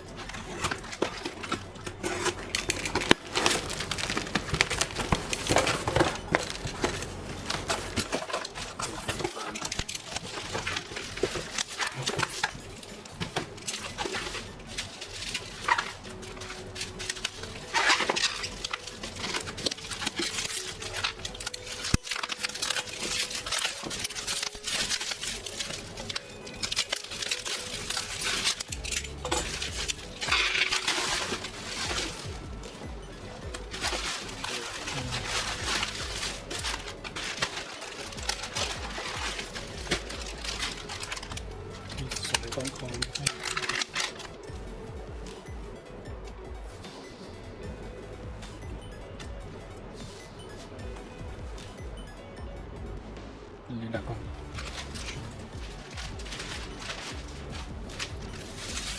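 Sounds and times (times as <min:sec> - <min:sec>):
parcel rustling and clattering: 0:00.0 - 0:58.9.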